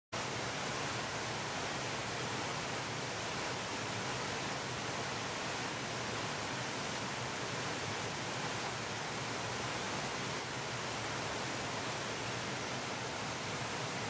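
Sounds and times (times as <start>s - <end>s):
whitewater rushing over rocks: 0.2s - 14.0s.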